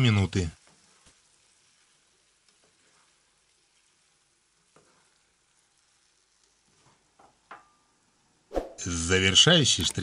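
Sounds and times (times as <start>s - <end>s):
pasta sizzling in a frying pan: 0.0s - 10.0s.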